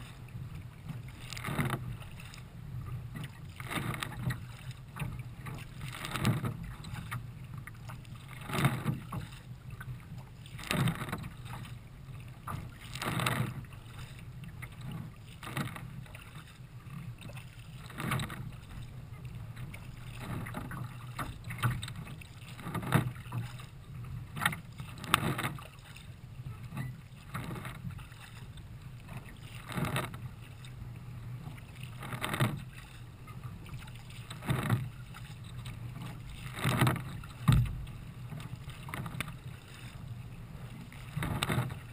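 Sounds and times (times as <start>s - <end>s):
low rush of water and wind: 0.0s - 41.9s
water splashing against kayak: 0.0s - 41.9s.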